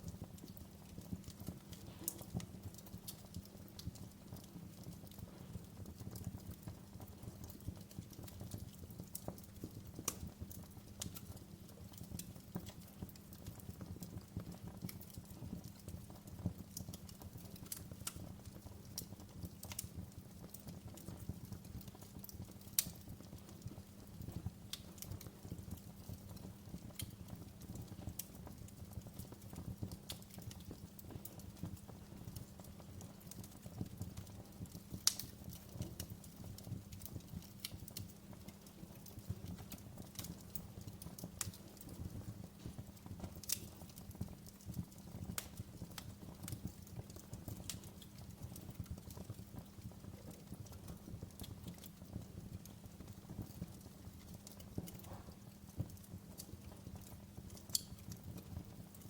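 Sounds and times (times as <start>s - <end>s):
fire crackling pops and snaps: 0.0s - 59.0s
fire flames rumbling: 0.1s - 59.0s.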